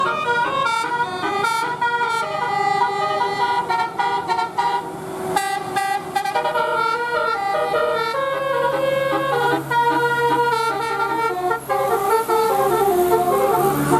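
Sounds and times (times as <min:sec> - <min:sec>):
musical air horn melody: 0:00.0 - 0:13.9.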